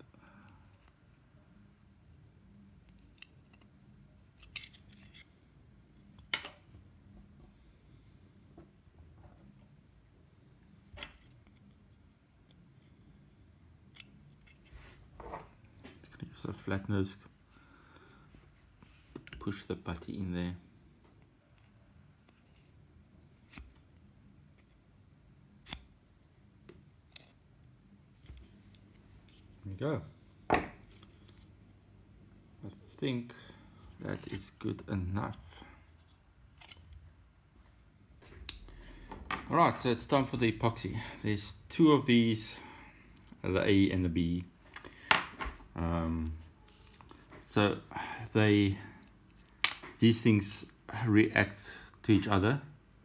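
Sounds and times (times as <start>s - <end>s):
faint room hum: 0.0s - 53.0s.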